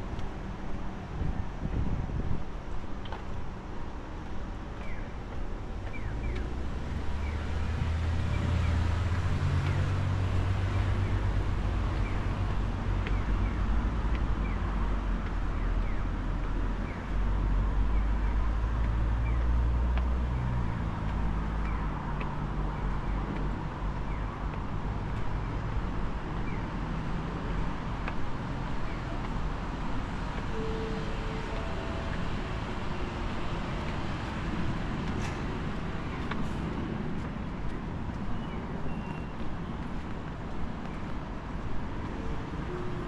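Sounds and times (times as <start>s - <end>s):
traffic rumble: 0.0s - 43.0s.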